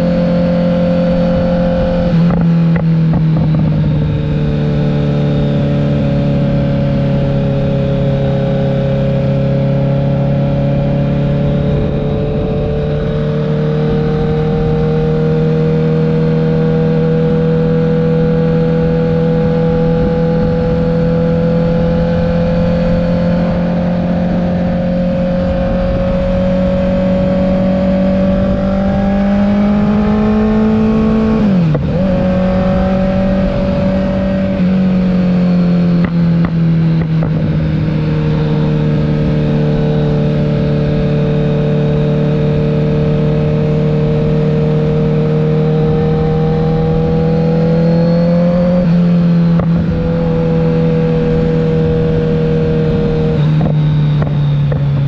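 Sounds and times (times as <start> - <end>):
motorcycle engine running under load: 0.0 - 55.0.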